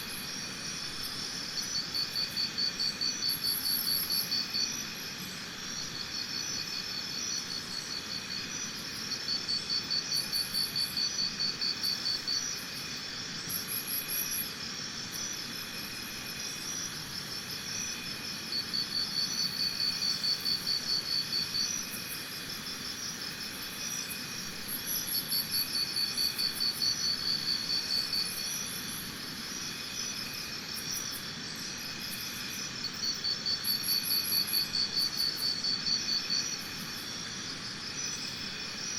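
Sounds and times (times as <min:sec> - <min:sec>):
high-pitched insect chorus: 0:00.0 - 0:38.9
insects trilling: 0:00.0 - 0:38.9.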